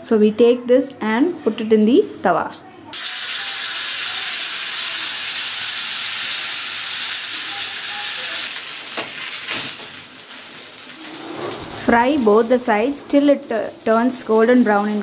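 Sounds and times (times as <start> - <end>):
fish sizzling in hot oil: 3.0 - 15.0.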